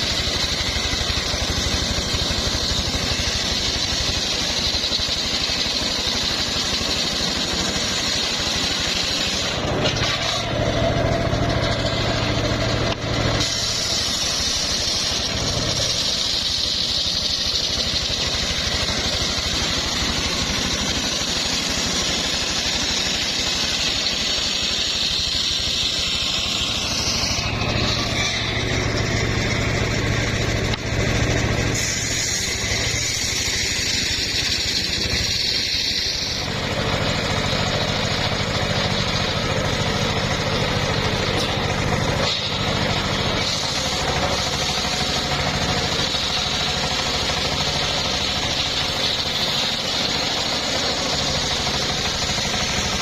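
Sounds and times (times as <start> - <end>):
sawmill engine and blade drone: 0.0 - 53.0.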